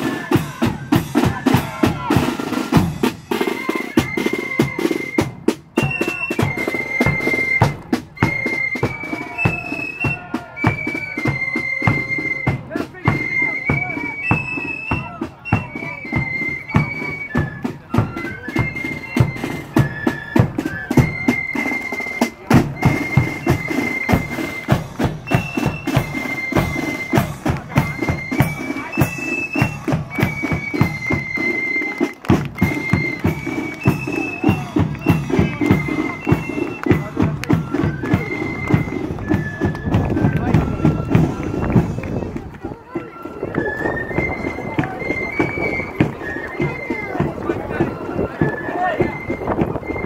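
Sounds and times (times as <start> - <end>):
flute melody: 0.0 - 50.0
marching drums with bass drum: 0.0 - 50.0.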